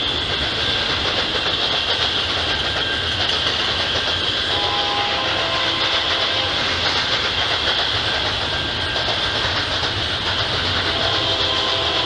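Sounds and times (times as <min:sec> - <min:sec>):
train wheels running on rails: 0:00.0 - 0:12.0.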